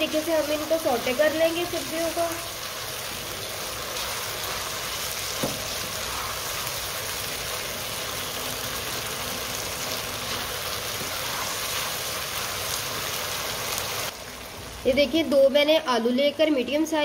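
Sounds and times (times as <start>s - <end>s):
stir-fry sizzling in a wok: 0.0s - 14.9s.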